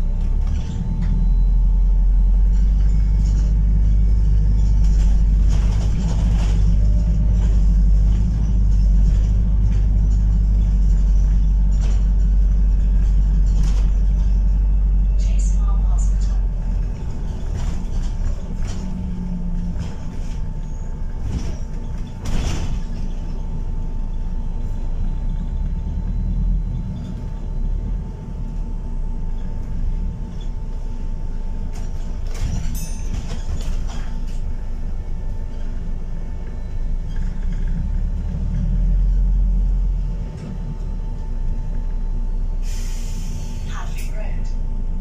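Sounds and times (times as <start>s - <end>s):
bus drivetrain and road rumble: 0.0s - 45.0s.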